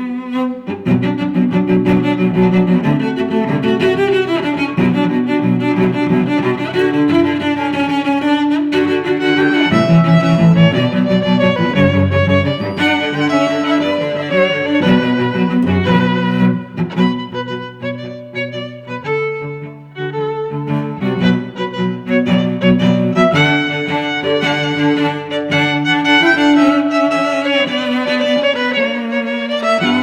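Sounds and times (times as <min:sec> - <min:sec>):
violin and cello music: 0:00.0 - 0:30.0.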